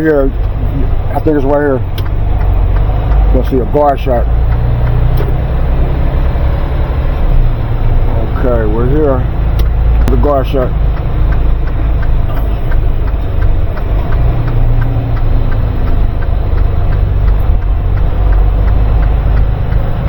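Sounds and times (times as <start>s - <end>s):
diesel truck engine rumbling: 0.0s - 20.0s
light regular ticking: 0.0s - 20.0s.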